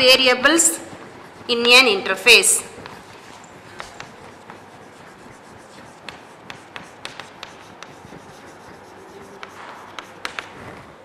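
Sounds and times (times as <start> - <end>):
chalk tapping on board: 0.0 - 10.8
chalk scratching on blackboard: 0.0 - 10.9.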